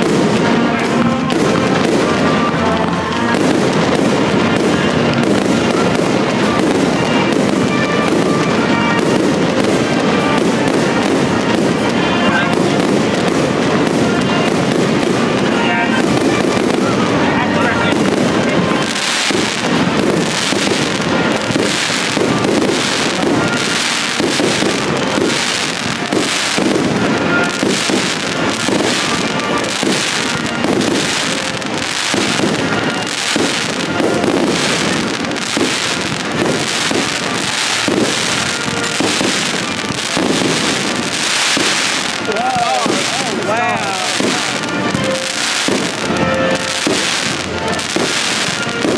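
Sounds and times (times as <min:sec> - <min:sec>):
fireworks bursting: 0:00.0 - 0:48.9.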